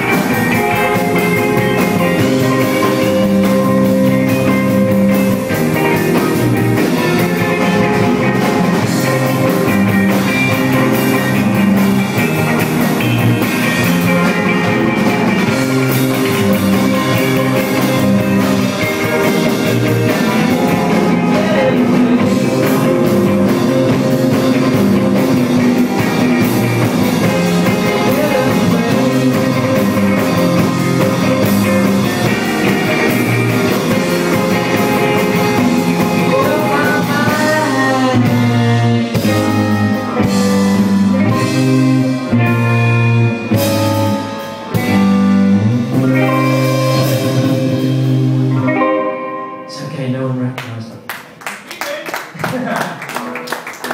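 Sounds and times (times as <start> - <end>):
electric guitar bend: 0.0 - 51.1
live rock band playing: 0.0 - 51.6.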